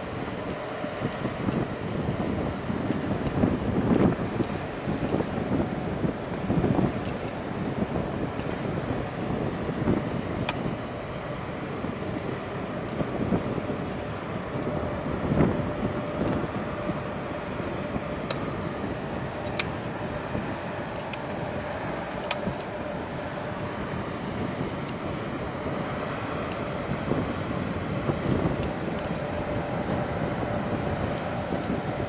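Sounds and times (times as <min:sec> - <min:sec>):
faint engine hum: 0:00.0 - 0:32.0
wind buffeting microphone: 0:00.0 - 0:32.0.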